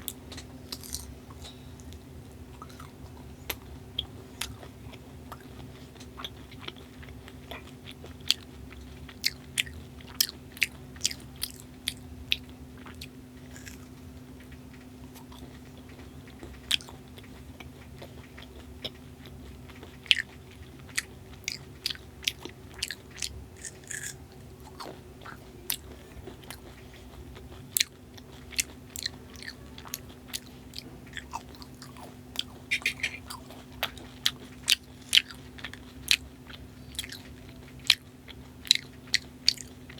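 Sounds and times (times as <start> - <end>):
close chewing with mouth clicks: 0.0 - 39.9
steady low hum: 0.0 - 39.9.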